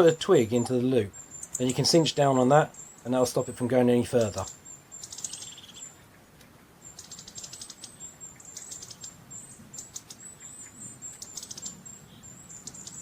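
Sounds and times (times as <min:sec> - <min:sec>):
small songbird singing: 0:00.0 - 0:13.0.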